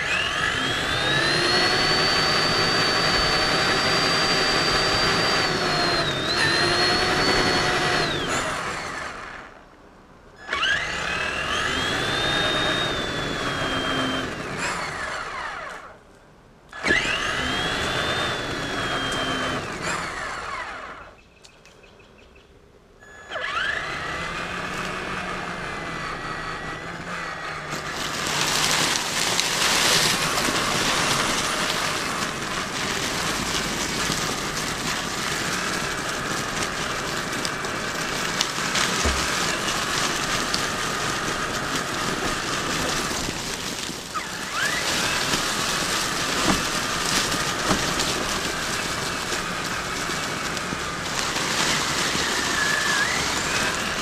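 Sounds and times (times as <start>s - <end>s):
electric motor and gears whining: 0.0s - 9.6s, 10.4s - 16.1s, 16.7s - 21.2s, 23.0s - 54.0s
tyres rolling over leaves and dirt: 0.0s - 9.8s, 10.4s - 21.2s, 23.2s - 54.0s.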